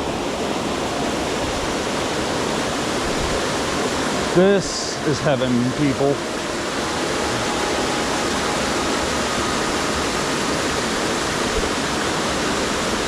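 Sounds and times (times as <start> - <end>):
water pouring down rocky cascade: 0.0 - 13.0.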